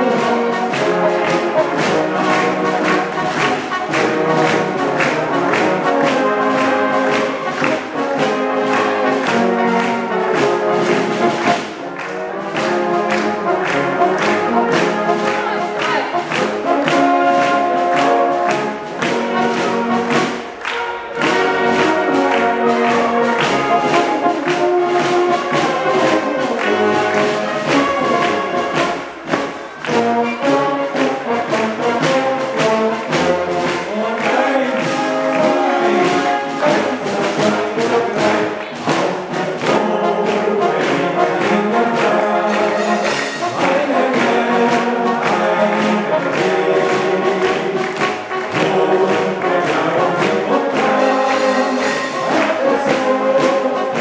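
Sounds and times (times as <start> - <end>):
brass-led music over a beat: 0.0 - 54.0.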